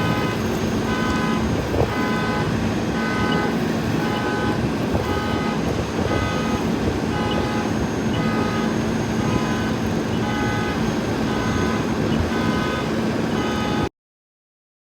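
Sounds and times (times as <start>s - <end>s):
large vehicle engine running: 0.0s - 13.9s
repeating electronic warning beep: 0.0s - 13.9s.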